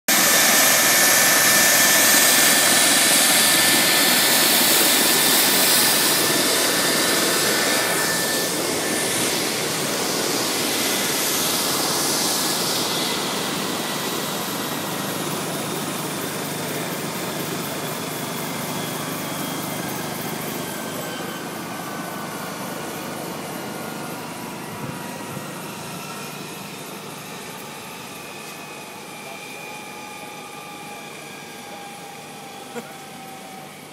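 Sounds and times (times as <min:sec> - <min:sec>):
helicopter rotor rushing: 0:00.1 - 0:33.9
helicopter turbine whine: 0:00.1 - 0:33.9.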